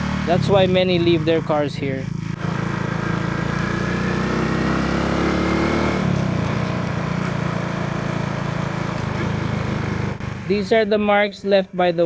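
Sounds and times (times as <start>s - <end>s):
small motorcycle engine running: 0.0s - 11.4s.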